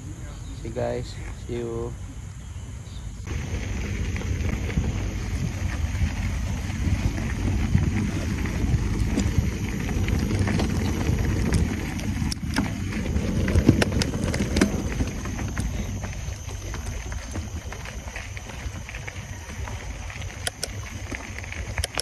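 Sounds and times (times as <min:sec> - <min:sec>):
bike tyre noise on dirt: 0:03.2 - 0:22.0
wind rumble on microphone: 0:03.2 - 0:22.0
bike clicks and rattles: 0:03.3 - 0:22.0.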